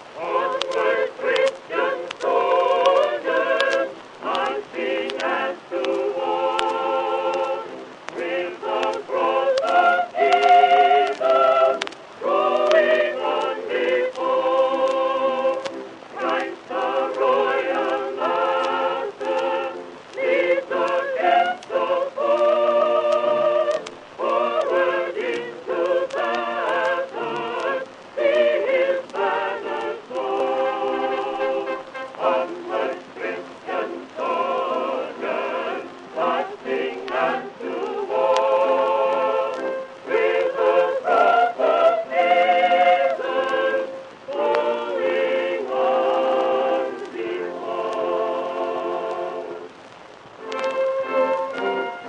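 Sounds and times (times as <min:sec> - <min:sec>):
faint clicks: 0:00.0 - 0:52.0
voices singing held notes: 0:00.0 - 0:52.0.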